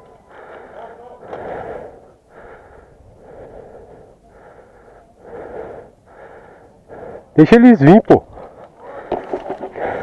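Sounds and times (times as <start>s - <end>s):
person breathing hard: 0.1s - 7.4s, 8.4s - 10.0s.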